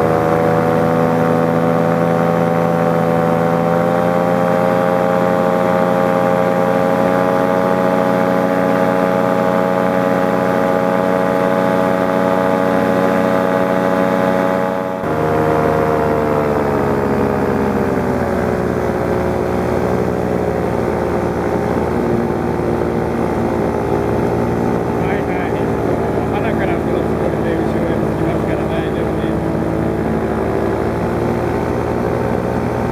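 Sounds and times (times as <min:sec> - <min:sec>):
paramotor engine and propeller: 0:00.0 - 0:32.9.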